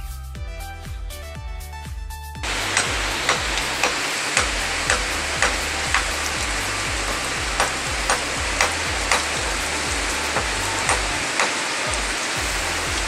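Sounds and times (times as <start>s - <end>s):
deep stepping bass line: 0.0s - 11.3s, 11.9s - 13.0s
background music with steady beat: 0.0s - 13.0s
steady hiss: 2.4s - 13.0s.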